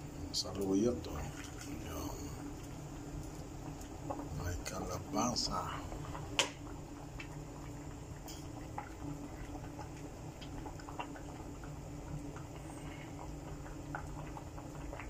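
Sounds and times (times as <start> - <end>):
pot boiling and bubbling: 0.0 - 15.0.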